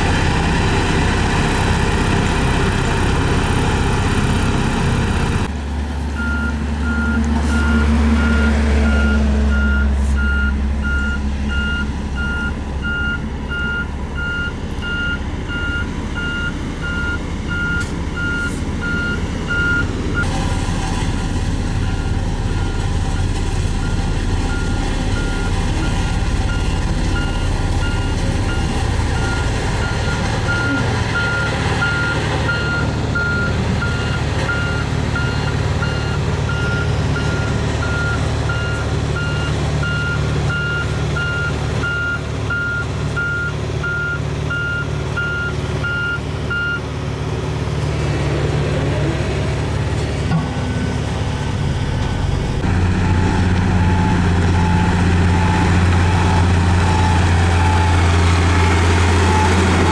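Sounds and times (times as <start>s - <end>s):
diesel engine running: 0.0s - 59.9s
reversing alarm beeping: 6.2s - 20.3s, 21.8s - 46.8s, 50.6s - 59.9s.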